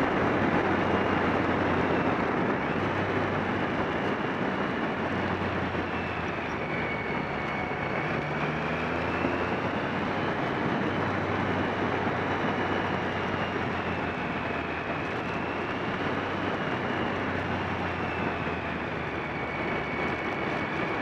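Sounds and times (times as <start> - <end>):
heavy wind rush: 0.0 - 21.0
motorcycle engine running: 0.0 - 21.0.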